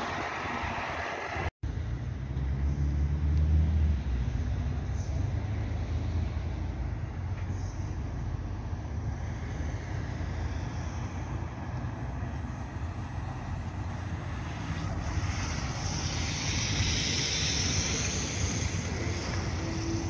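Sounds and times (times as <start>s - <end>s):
bus approaching: 0.0s - 20.0s.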